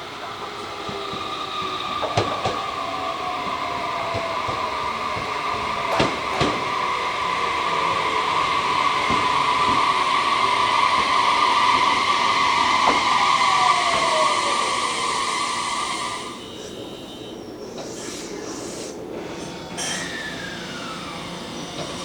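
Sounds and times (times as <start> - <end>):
train braking squeal: 0.3 - 22.0.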